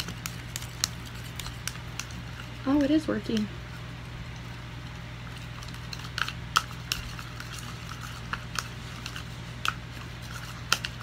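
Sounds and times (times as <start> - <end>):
spoon stirring slime: 0.0 - 3.5, 4.4 - 11.0.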